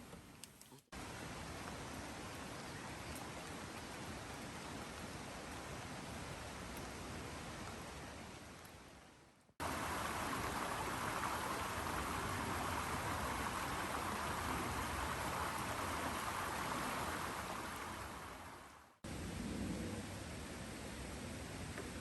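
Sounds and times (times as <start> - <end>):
steady rain falling: 0.1 - 22.0.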